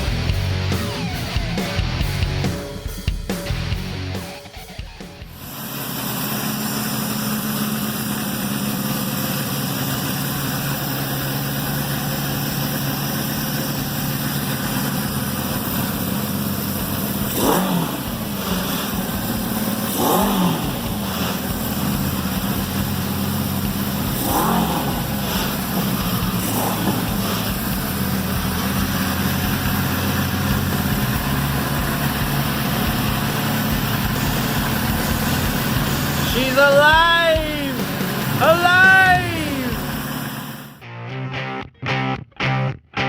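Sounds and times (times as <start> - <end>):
engine idling: 0.0 - 40.8
engine throttle revs: 3.6 - 40.8.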